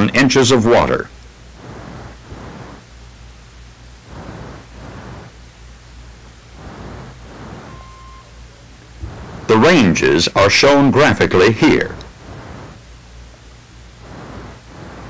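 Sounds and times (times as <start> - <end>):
analog soundtrack hiss: 0.0 - 15.0
low hum: 0.0 - 15.0.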